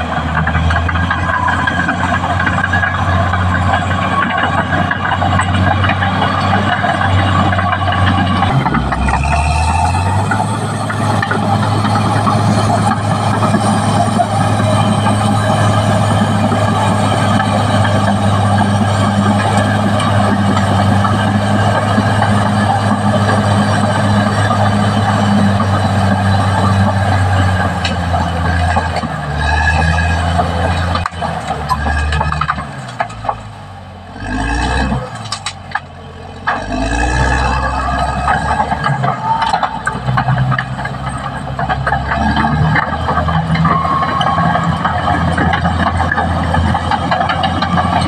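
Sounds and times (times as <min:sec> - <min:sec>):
bulldozer diesel engine running: 0:00.0 - 0:48.0.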